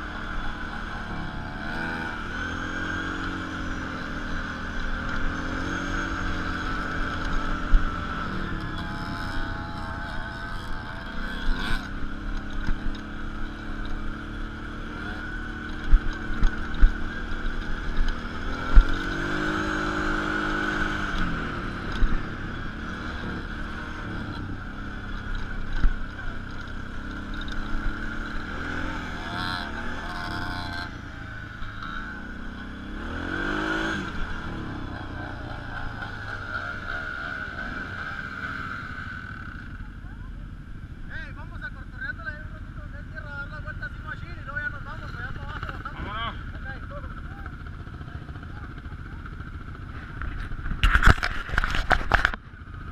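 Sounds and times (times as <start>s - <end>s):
dirt bike engine: 0.0s - 52.9s.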